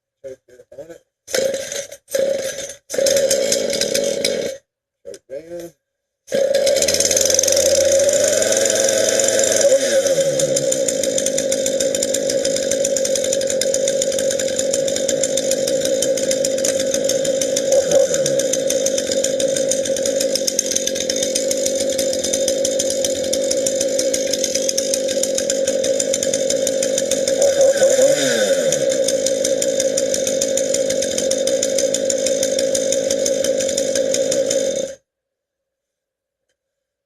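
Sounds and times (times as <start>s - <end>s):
chainsaw idling: 1.3s - 4.6s, 6.3s - 35.0s
chainsaw throttle blip: 1.3s - 4.6s, 6.3s - 35.0s.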